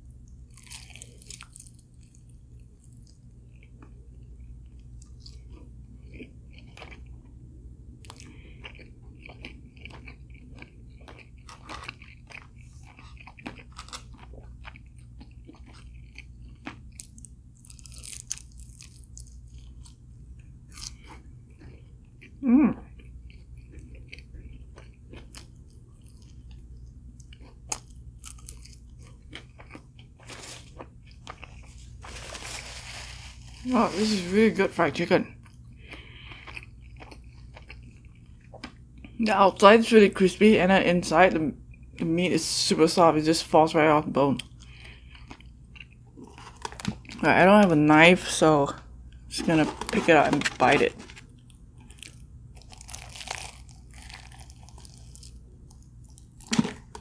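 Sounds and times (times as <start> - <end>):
steady low hum: 0.0 - 57.0
chewing crispy chicken: 0.1 - 34.4, 35.2 - 39.3, 44.2 - 47.4, 49.0 - 57.0.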